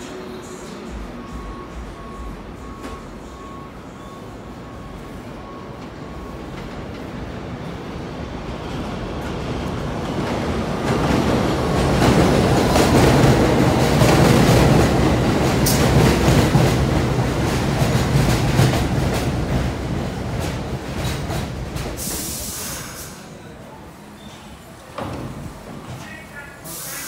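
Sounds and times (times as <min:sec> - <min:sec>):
train passing on elevated tracks: 0:00.0 - 0:27.0.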